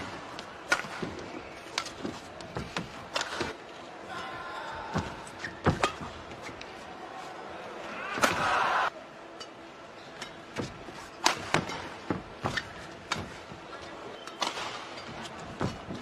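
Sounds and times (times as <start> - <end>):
crowd noise: 0.0 - 16.0.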